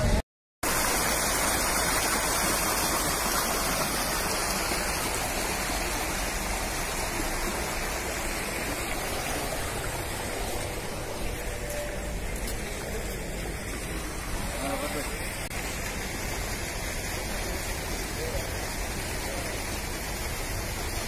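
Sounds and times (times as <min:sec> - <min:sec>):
floodwater rushing through drain: 0:00.0 - 0:21.0.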